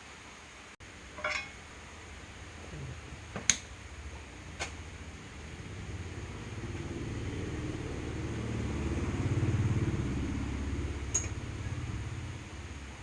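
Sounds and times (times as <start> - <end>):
motor vehicle rumble: 0.8 - 13.0.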